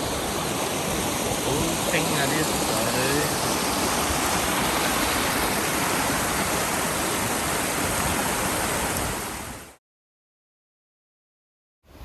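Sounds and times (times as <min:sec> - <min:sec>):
stream rushing over rocks: 0:00.0 - 0:09.8.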